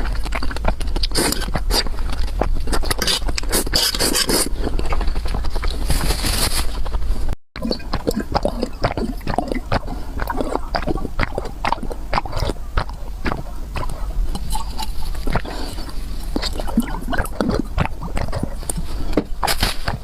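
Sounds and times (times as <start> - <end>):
rapid chewing with clicks: 0.0 - 6.2, 6.8 - 20.0.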